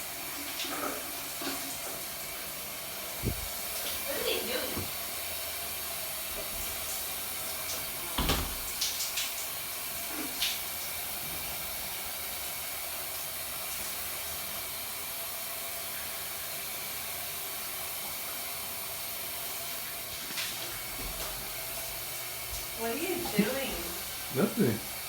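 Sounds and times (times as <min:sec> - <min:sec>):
shower water spraying: 0:00.0 - 0:25.0.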